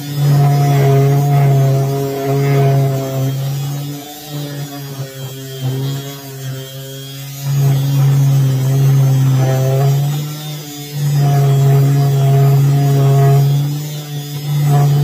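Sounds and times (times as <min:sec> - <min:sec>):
electric sander buzzing: 0:00.0 - 0:15.0.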